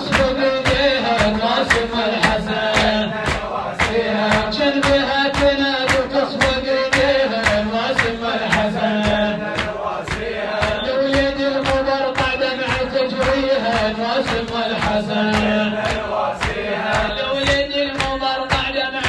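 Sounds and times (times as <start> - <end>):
man singing a lament: 0.0 - 19.0
men chanting: 0.0 - 19.0
hands beating on chests: 0.1 - 19.0.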